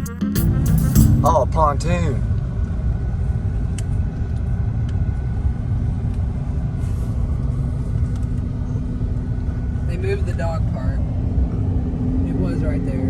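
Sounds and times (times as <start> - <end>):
car road and engine rumble: 0.4 - 13.0.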